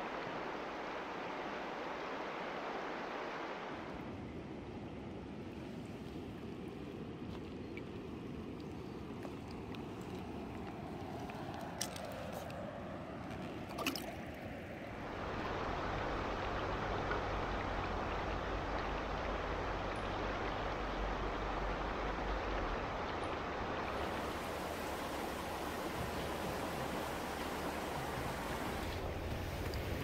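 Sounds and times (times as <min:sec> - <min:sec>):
river water rushing: 0:00.0 - 0:04.1, 0:08.1 - 0:30.0.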